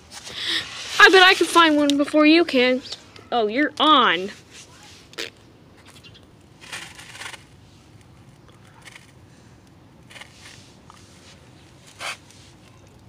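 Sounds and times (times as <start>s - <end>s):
grass rustling by hand: 0.0s - 12.8s.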